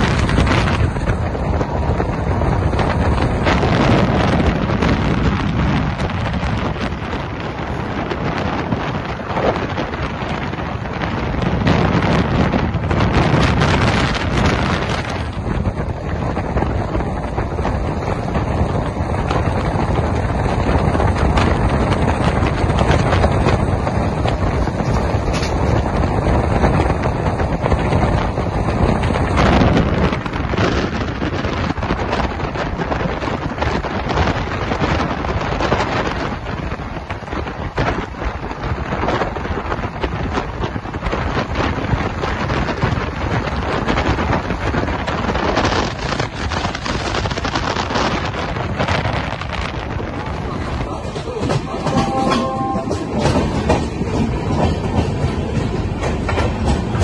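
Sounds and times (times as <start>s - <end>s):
train running on rails: 0.0s - 57.0s
wind rushing over microphone: 0.0s - 57.0s.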